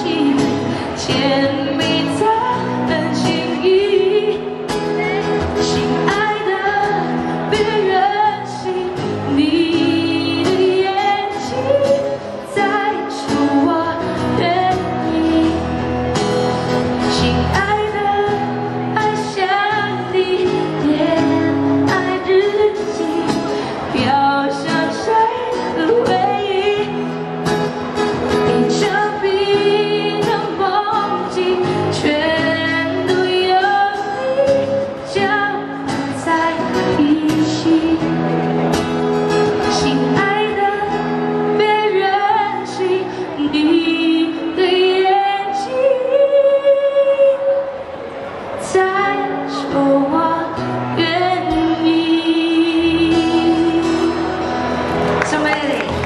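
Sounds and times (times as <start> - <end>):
woman singing into a microphone: 0.0 - 47.9, 48.6 - 54.6
guitar: 0.0 - 56.0.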